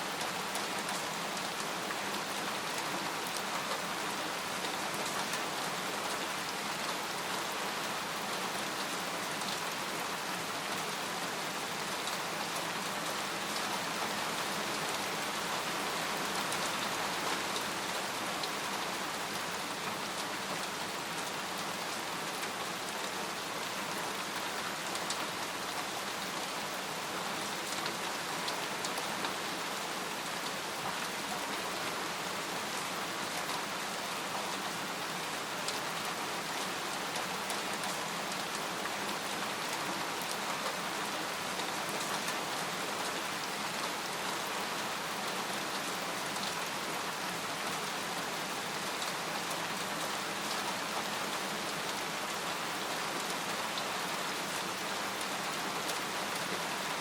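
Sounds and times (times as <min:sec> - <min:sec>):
rain on a tent: 0:00.0 - 0:57.0.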